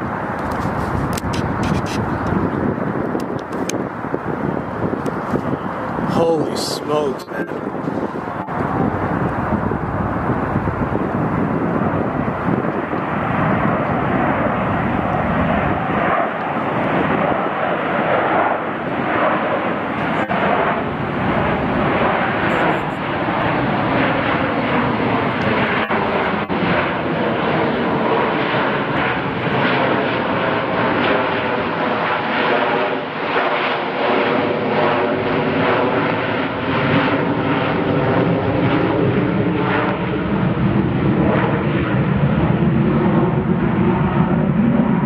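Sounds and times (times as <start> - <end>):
jet aircraft climbing overhead: 0.0 - 45.0.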